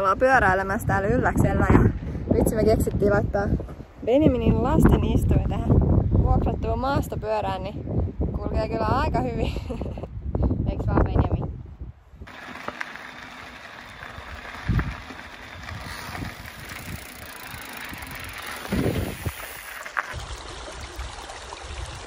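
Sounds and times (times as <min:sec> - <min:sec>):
wind and tyre noise: 0:00.0 - 0:22.0.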